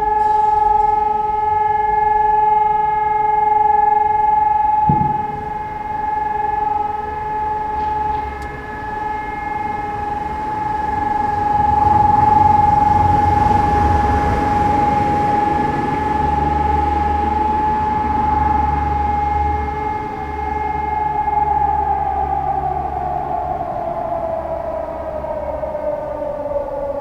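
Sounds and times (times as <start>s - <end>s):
siren steady continuous tone: 0.0s - 27.0s
low rumble: 4.8s - 26.6s.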